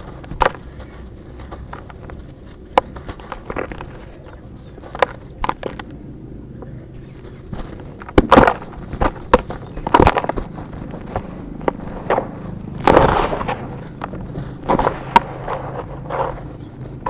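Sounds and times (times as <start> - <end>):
dirt clumps crunching: 0.0 - 17.0.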